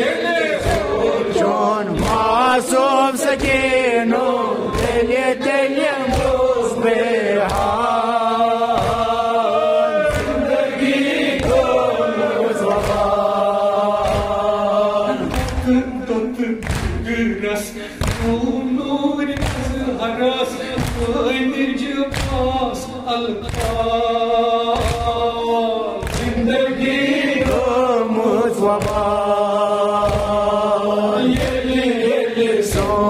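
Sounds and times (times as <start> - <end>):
man singing a lament: 0.0 - 10.3, 12.9 - 33.0
men chanting: 0.0 - 33.0.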